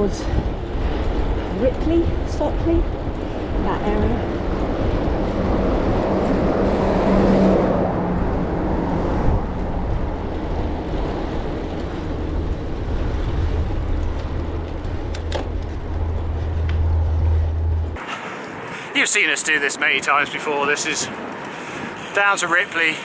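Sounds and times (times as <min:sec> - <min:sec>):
wind on microphone: 0:00.0 - 0:18.6
bicycle rumble: 0:00.0 - 0:18.9.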